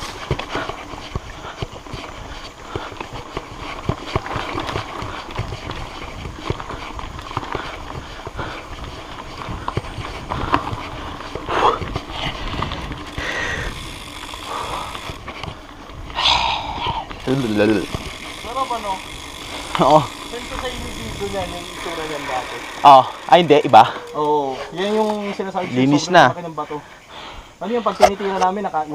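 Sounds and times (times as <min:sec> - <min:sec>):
mountain bike clattering on rocks: 0:00.0 - 0:16.1, 0:17.1 - 0:26.0.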